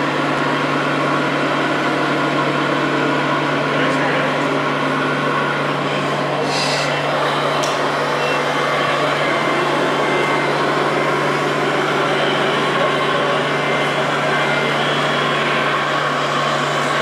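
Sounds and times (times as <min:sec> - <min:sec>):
model truck engines running: 0:00.0 - 0:17.0.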